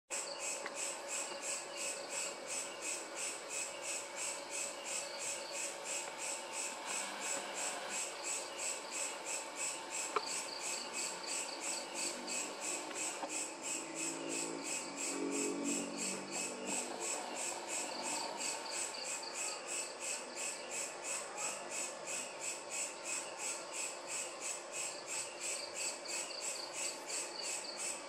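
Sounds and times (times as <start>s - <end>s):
crickets chirping: 0.1s - 28.0s.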